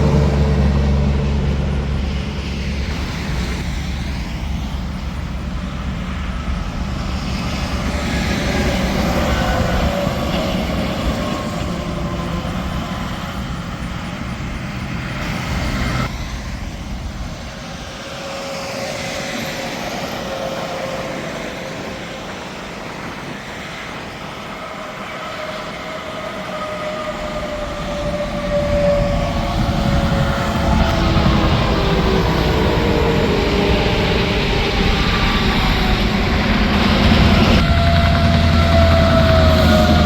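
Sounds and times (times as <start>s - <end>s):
trucks passing: 0.0s - 24.4s, 25.3s - 40.0s.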